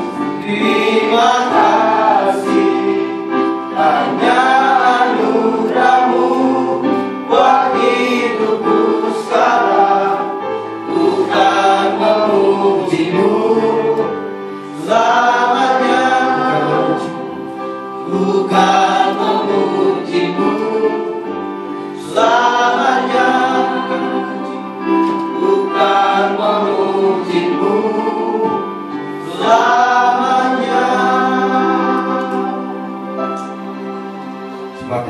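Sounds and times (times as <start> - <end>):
group singing a hymn: 0.0 - 34.8
held accompaniment: 0.0 - 35.0.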